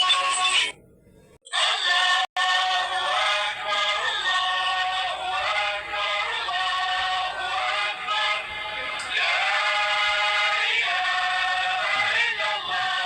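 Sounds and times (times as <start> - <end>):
voices singing a children's song: 0.0 - 0.8, 1.4 - 13.0.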